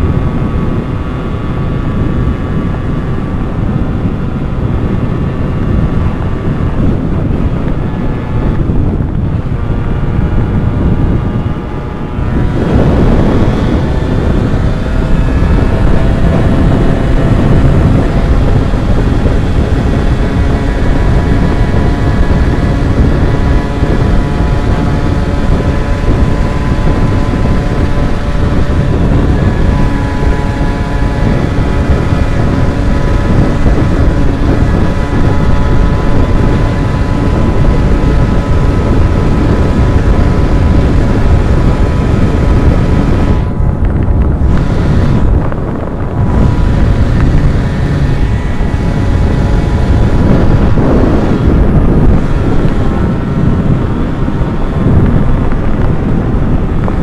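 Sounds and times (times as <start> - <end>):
two-stroke motorcycle engine running: 0.0 - 57.0
wind rushing over microphone: 0.0 - 57.0.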